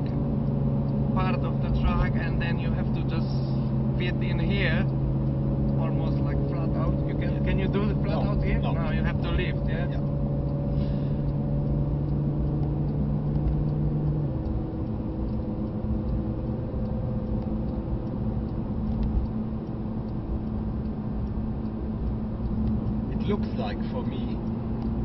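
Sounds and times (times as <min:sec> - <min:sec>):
car engine running: 0:00.0 - 0:25.0
tyre and road noise: 0:00.0 - 0:25.0.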